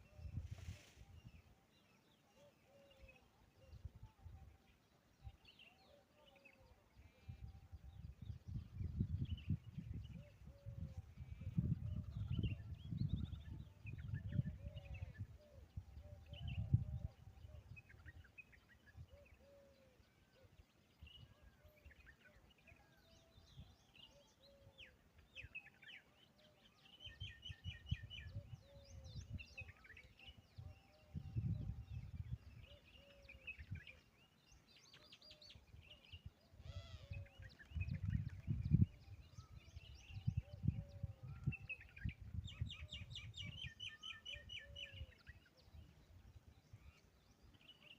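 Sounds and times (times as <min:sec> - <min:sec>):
birds chirping: 0:01.1 - 0:47.9.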